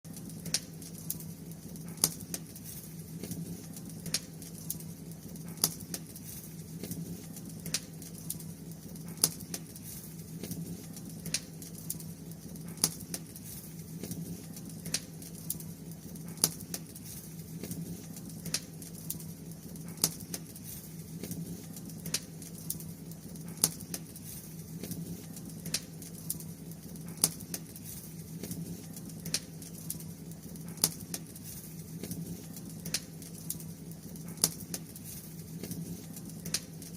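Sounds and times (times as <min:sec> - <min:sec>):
bonfire crackling: 0:00.1 - 0:36.9.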